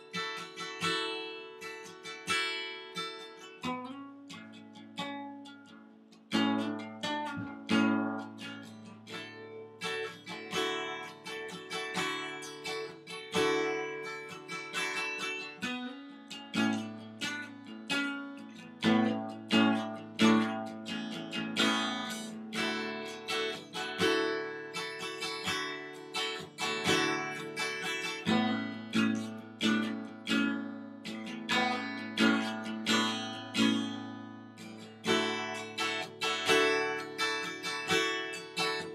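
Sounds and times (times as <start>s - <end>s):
acoustic guitar strumming chords: 0.0s - 38.9s.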